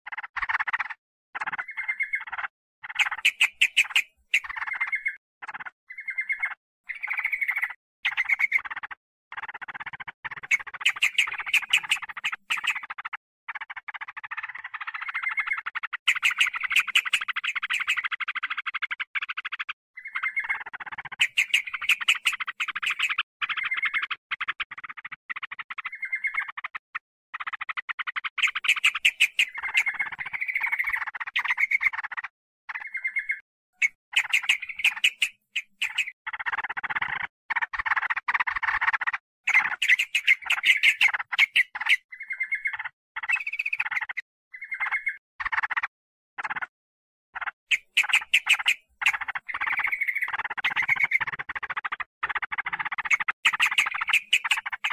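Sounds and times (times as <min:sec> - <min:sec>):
bird harsh chattering calls: 0:00.1 - 0:46.7, 0:47.4 - 0:54.9.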